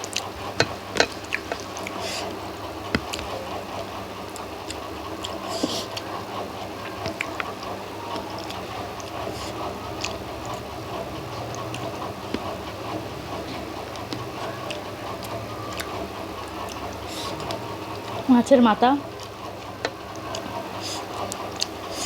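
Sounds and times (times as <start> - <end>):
person chewing food: 0.0 - 18.3, 19.0 - 22.0.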